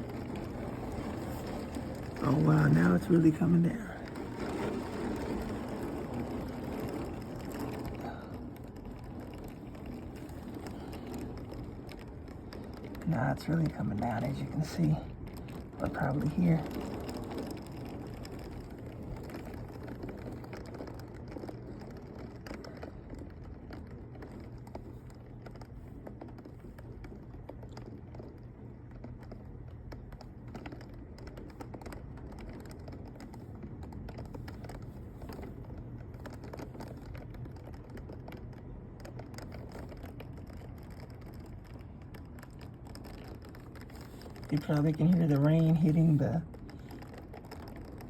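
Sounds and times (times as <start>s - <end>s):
raindrops hitting window: 0.0s - 48.0s.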